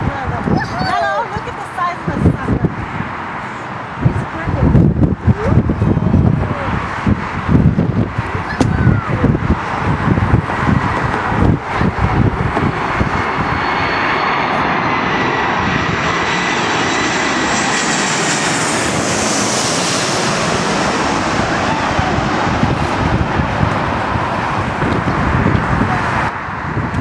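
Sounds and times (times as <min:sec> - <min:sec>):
jet airliner flying past: 0:00.0 - 0:27.0.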